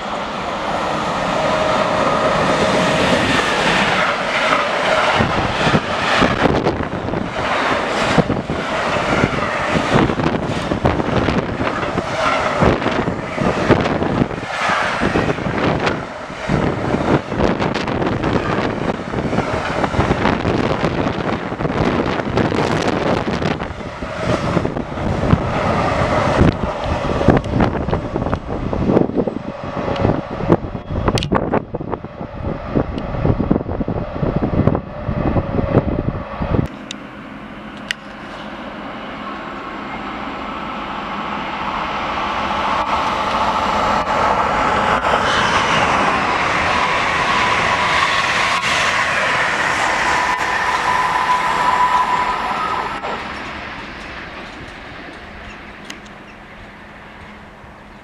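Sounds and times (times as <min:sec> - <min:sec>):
high-speed train passing: 0:00.0 - 0:58.0.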